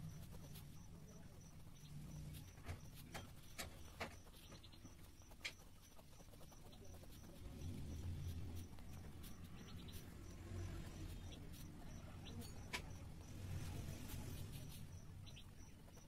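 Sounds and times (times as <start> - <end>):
pen scratching on paper: 0.0 - 16.0
steady low hum: 0.0 - 16.0.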